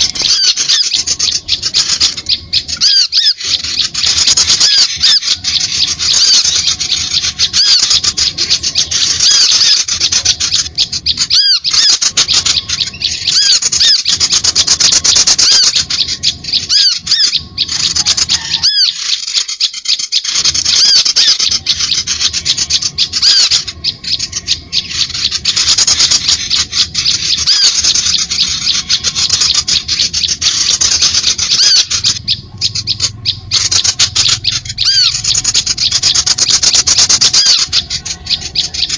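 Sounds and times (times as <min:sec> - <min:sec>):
small birds chattering: 0:00.0 - 0:38.9.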